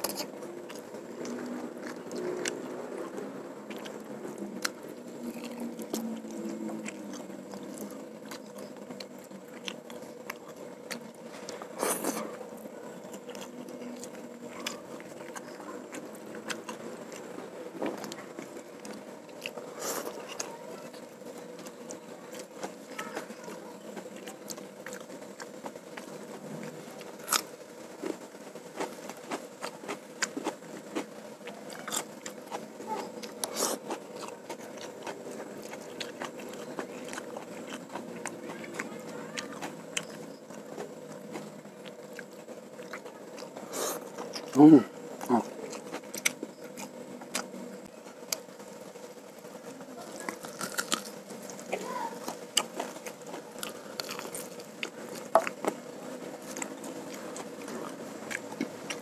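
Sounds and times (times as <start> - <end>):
man chewing with mouth clicks: 0.0 - 49.0, 50.0 - 59.0
faint steady hum: 0.0 - 59.0.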